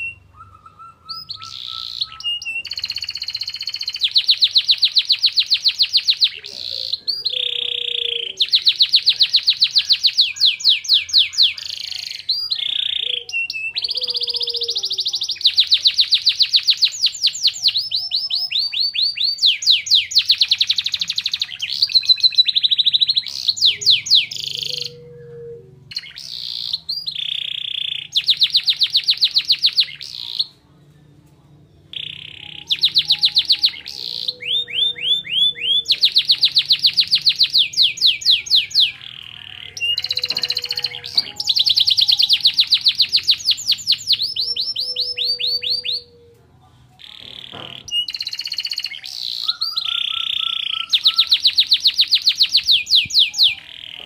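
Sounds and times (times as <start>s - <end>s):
canary singing trills: 0.0s - 46.4s, 47.0s - 54.0s.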